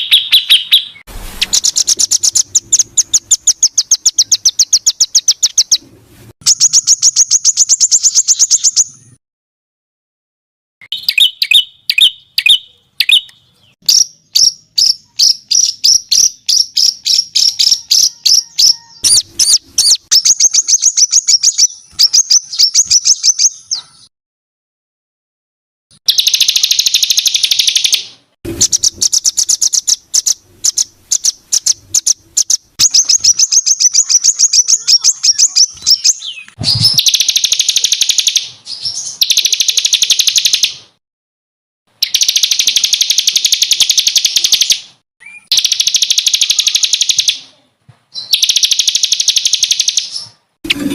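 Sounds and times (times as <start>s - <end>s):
recorded songbird song: 0.0s - 9.2s, 10.8s - 24.1s, 26.0s - 41.0s, 41.9s - 50.9s.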